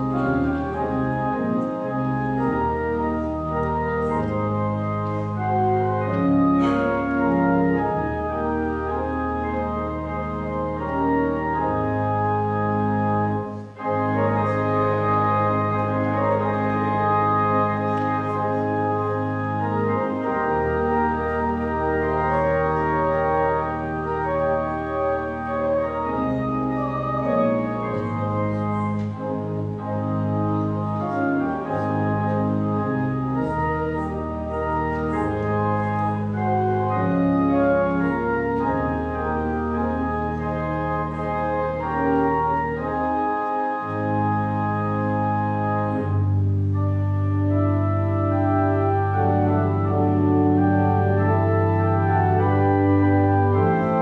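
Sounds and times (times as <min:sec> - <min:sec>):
church organ playing a hymn: 0:00.0 - 0:54.0.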